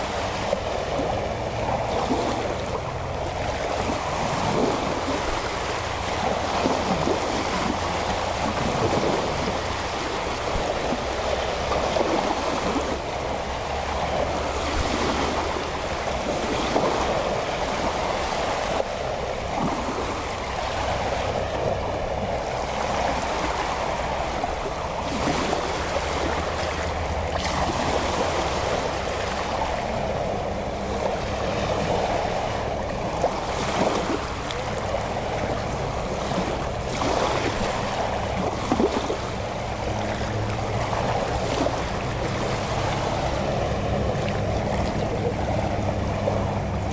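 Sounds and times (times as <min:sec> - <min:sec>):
low steady hum: 0:00.0 - 0:46.9
small waves lapping at shore: 0:00.0 - 0:46.9.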